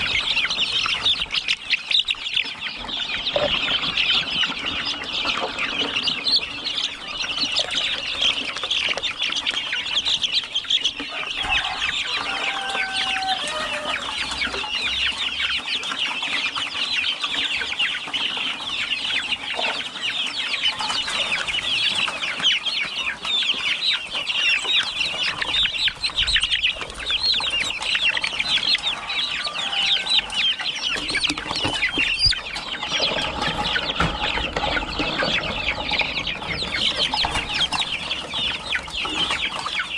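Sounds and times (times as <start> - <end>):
flock of chickens calling: 0.0 - 39.9.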